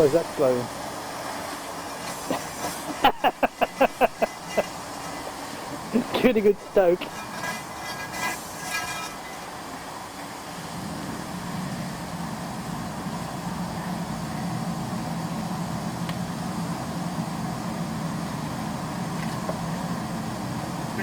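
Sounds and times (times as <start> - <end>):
air blower humming: 0.0 - 21.0.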